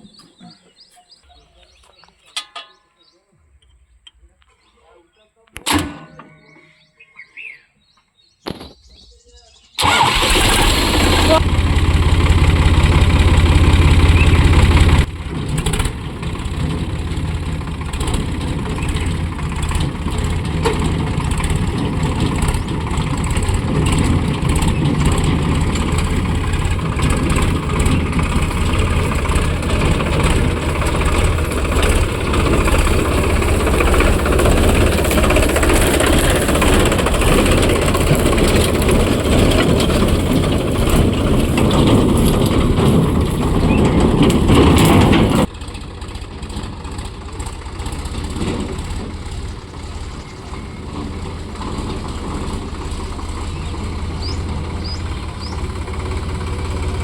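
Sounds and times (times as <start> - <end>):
tractor diesel engine running: 9.8 - 57.0.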